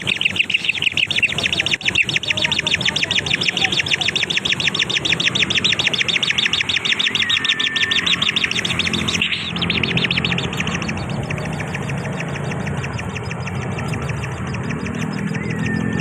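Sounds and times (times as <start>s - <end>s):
bird chirping rapidly: 0.0s - 16.0s
steady low hum: 0.0s - 16.0s.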